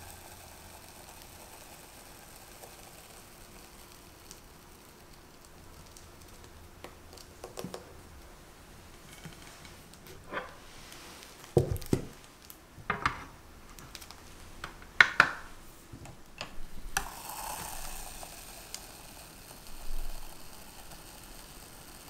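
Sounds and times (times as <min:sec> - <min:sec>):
batter pouring with soft hiss: 0:00.0 - 0:14.6, 0:15.5 - 0:22.0.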